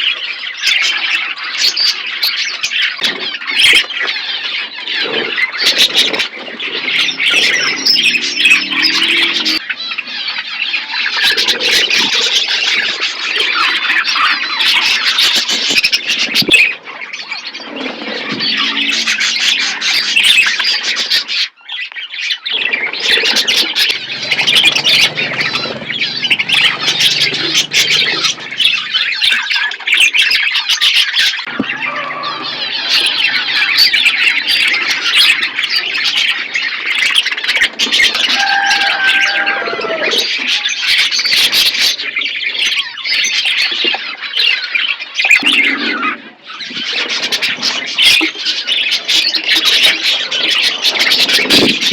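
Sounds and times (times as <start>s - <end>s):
parrots chattering and squawking: 0.0s - 51.9s.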